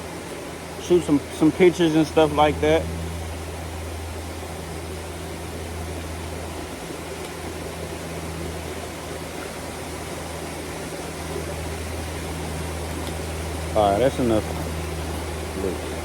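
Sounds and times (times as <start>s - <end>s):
low steady hum: 0.0s - 16.0s
waterfall rushing: 0.0s - 16.0s.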